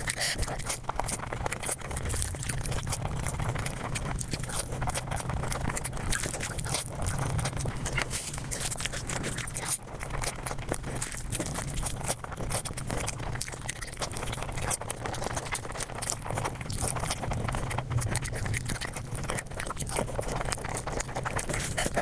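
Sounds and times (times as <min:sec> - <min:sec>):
rapid chewing and crunching: 0:00.0 - 0:22.0.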